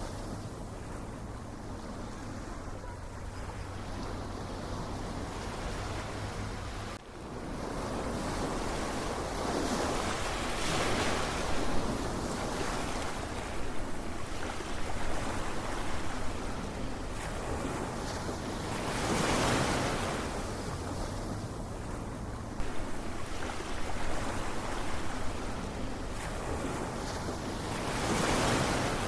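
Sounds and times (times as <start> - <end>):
ocean waves washing: 0.0 - 29.0.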